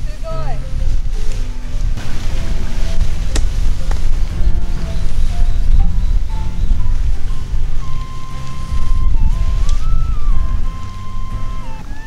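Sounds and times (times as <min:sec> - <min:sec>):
music with heavy bass line: 0:00.5 - 0:12.0.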